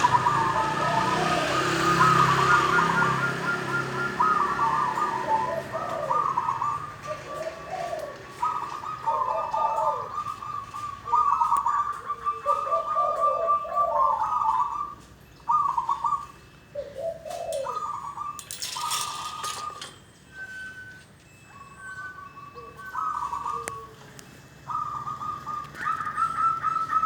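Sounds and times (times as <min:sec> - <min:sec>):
dove trilled cooing: 0:00.0 - 0:27.0.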